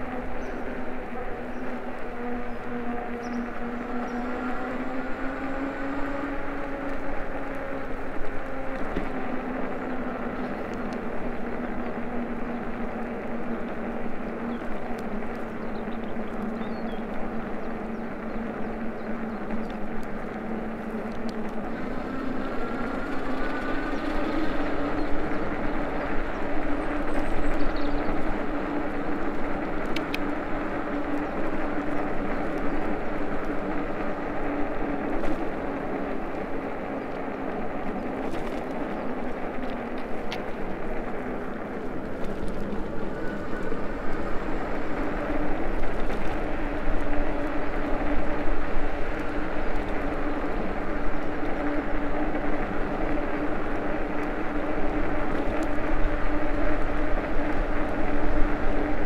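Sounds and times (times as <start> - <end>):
electric bike drive hum: 0.0 - 59.0
rushing noise of travel: 0.0 - 59.0.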